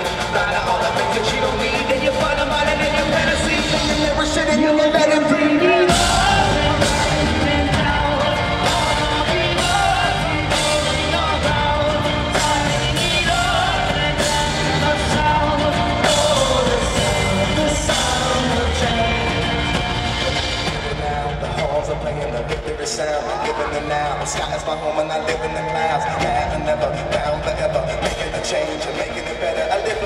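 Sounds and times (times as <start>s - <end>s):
drums keeping a steady beat: 0.0s - 30.0s
live rock band playing: 0.0s - 30.0s
sung vocals: 0.0s - 30.0s.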